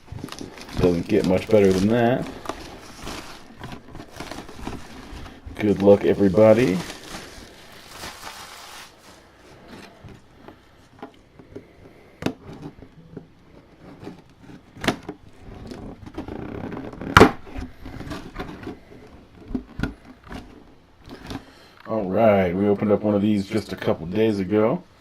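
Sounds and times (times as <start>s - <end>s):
packaging rustling: 0.0s - 21.7s.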